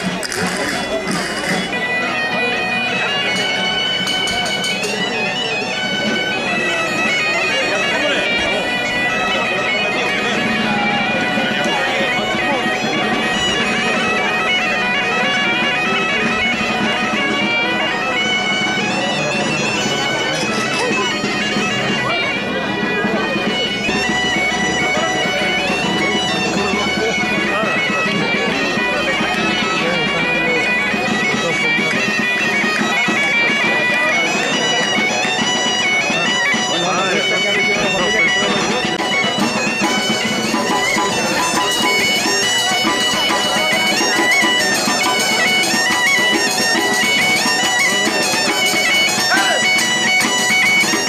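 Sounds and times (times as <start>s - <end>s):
bagpipe melody over drone: 0.0s - 51.0s.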